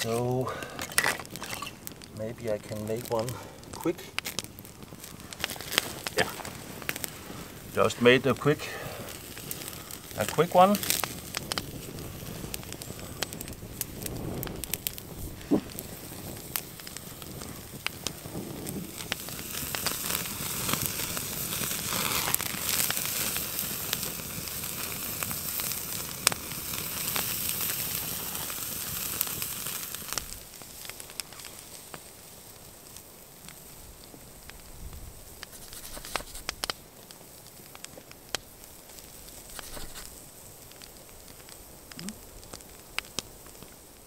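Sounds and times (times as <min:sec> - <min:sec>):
burger patties sizzling: 0:00.0 - 0:44.0
wood fire crackling and popping: 0:00.0 - 0:44.0.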